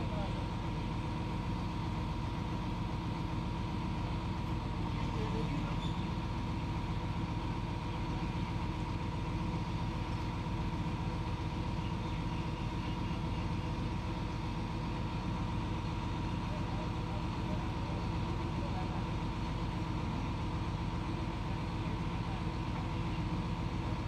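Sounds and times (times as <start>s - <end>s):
crane engine running: 0.0s - 24.0s.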